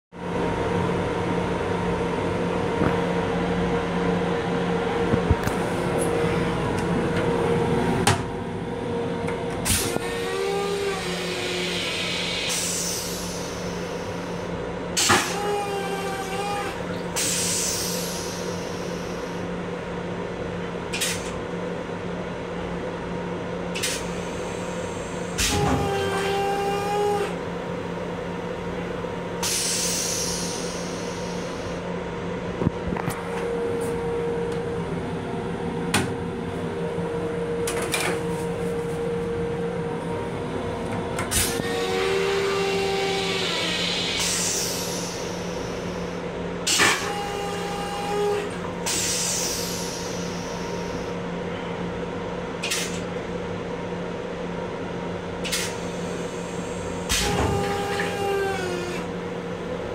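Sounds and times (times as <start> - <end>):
railcar hum and rushing: 0.1 - 59.9.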